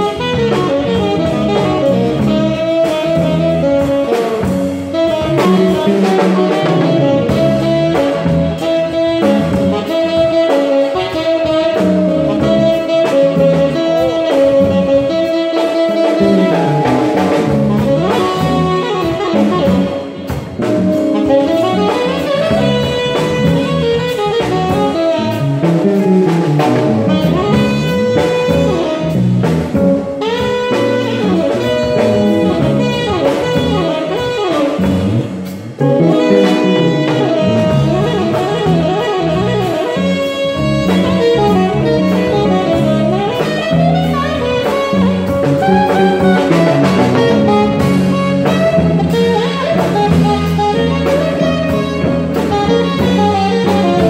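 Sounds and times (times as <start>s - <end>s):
jazz band playing: 0.0s - 54.0s
tenor saxophone melody: 0.0s - 54.0s.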